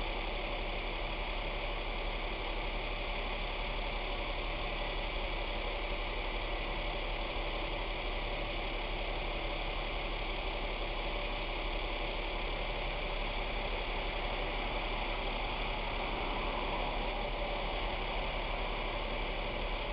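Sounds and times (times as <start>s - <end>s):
truck engine idling: 0.1s - 19.9s.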